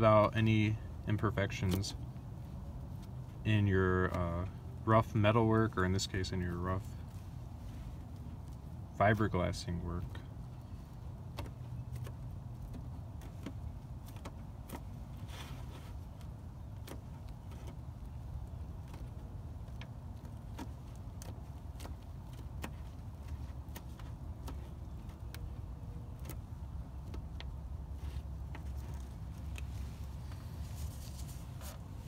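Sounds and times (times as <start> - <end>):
gloved fingers crinkling cloth: 6.0 - 32.0.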